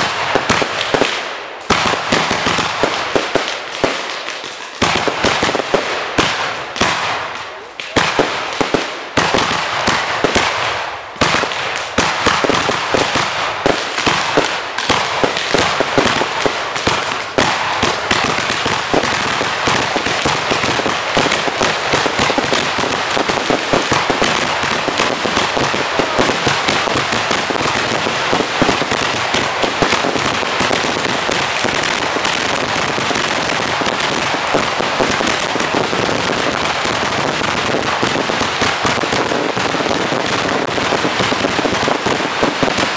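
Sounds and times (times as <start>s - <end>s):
fireworks bangs: 0.0s - 42.9s
fireworks crackling: 0.0s - 42.9s.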